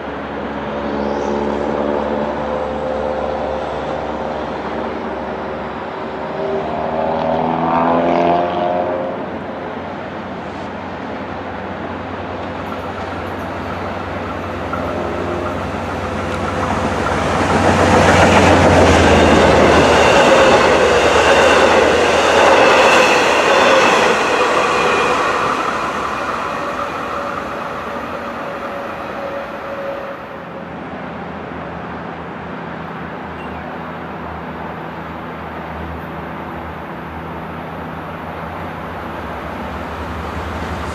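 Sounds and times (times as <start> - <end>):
train passing by: 0.0 - 40.9.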